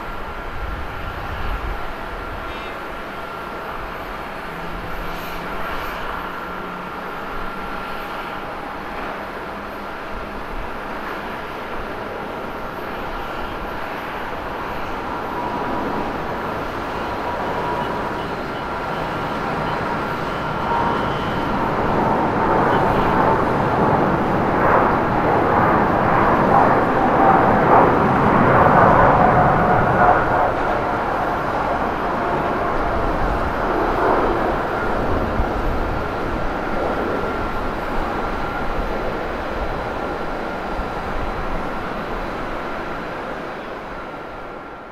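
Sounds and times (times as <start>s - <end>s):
jet engines roaring on takeoff: 0.0s - 44.9s.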